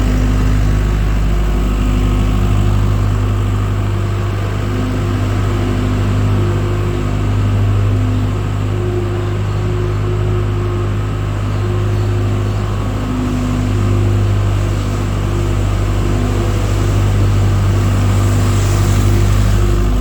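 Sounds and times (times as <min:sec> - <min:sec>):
skid loader engine running: 0:00.0 - 0:20.0.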